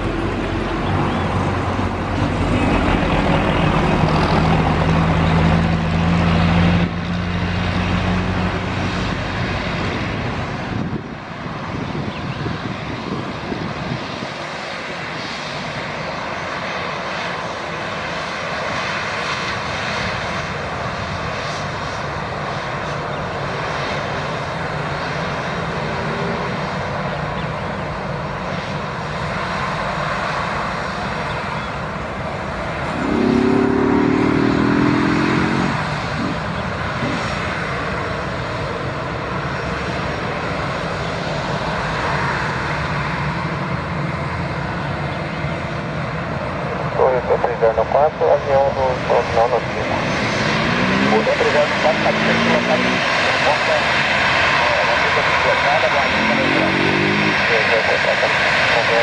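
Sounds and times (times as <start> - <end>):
jet engines rumbling and hissing: 0.0 - 59.0.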